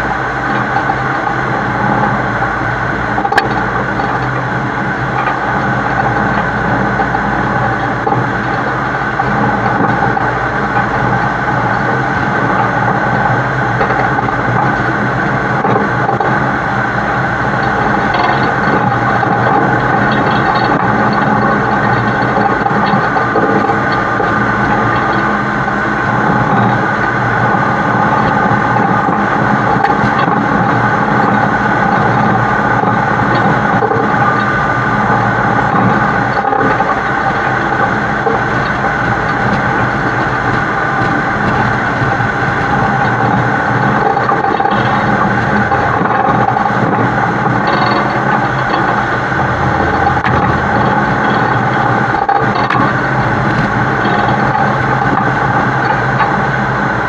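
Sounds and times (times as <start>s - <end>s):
road noise: 0.0s - 57.0s
truck diesel engine: 0.0s - 57.0s.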